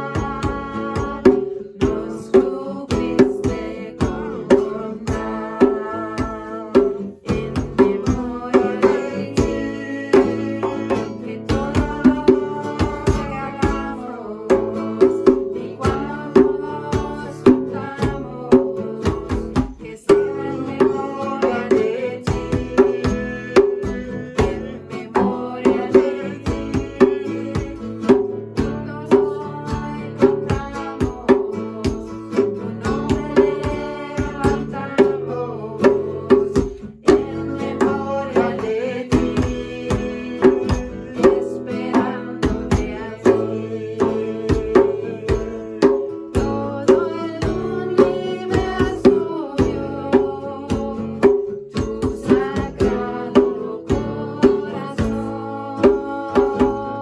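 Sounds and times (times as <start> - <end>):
acoustic guitar: 0.0 - 57.0
djembe beat: 0.0 - 57.0
man and woman singing: 0.0 - 57.0.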